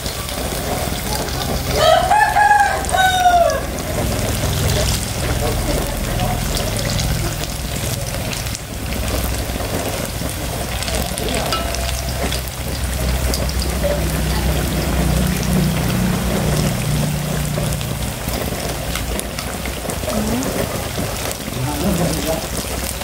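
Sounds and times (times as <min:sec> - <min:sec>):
food deep-frying in oil: 0:00.0 - 0:23.0.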